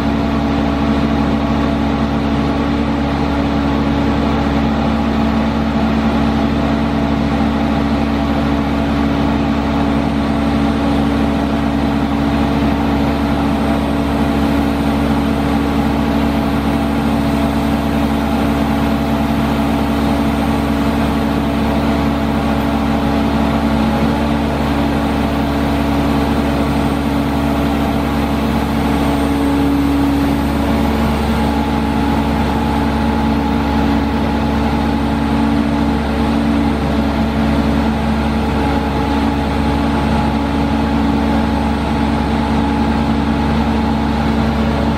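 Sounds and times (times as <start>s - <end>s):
diesel engine running steadily: 0.0s - 44.9s.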